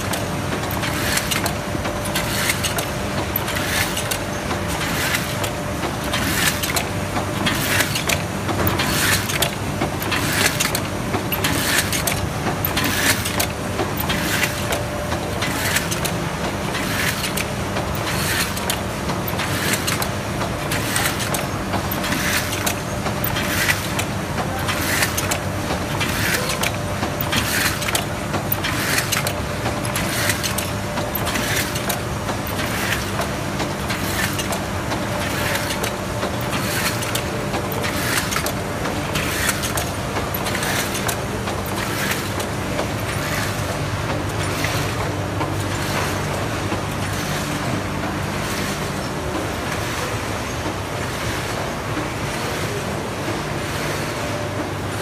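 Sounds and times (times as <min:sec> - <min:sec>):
die-cutting press motor hum: 0:00.0 - 0:55.0.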